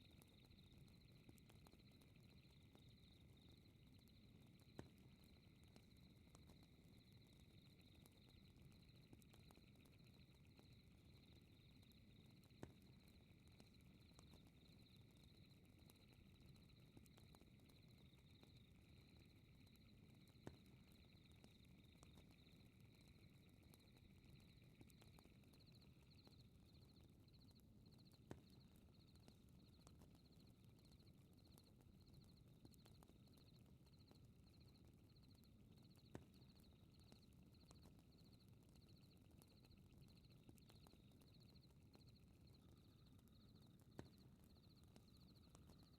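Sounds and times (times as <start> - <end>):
fire burning with crackles: 0.0 - 45.9
insects chirping: 0.0 - 45.9.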